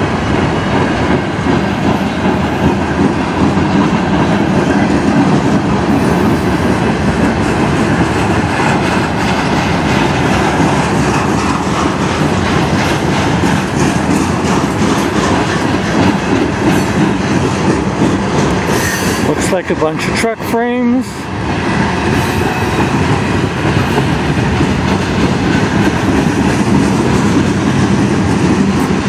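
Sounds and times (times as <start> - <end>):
train wheels rumbling on rail: 0.0 - 29.0
wheels clacking over rail joints: 0.0 - 29.0.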